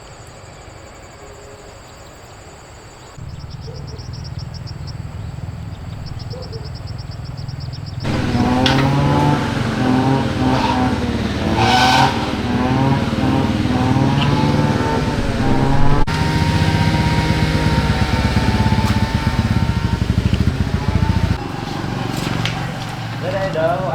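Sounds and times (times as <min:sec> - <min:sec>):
engine running and revving: 0:03.2 - 0:23.9.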